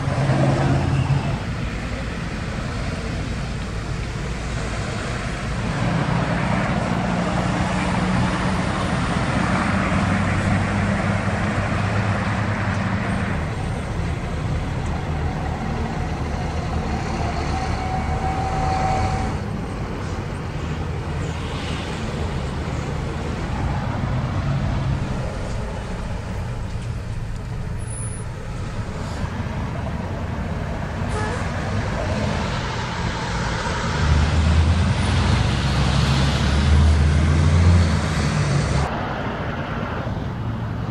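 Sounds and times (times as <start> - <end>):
trucks passing: 0.0 - 40.9
tyre noise on road: 0.0 - 40.9.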